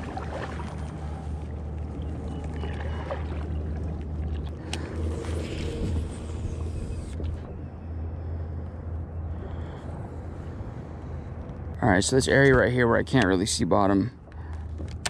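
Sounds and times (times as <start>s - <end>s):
wind rumble on microphone: 0.0s - 13.3s.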